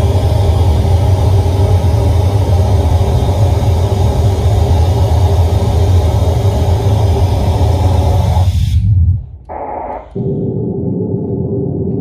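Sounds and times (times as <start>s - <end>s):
loud bass-heavy test noise: 0.0s - 12.0s.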